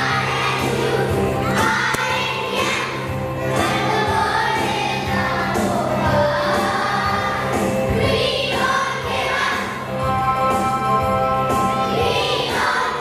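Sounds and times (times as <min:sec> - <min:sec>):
children's choir singing: 0:00.0 - 0:13.0
musical accompaniment: 0:00.0 - 0:13.0.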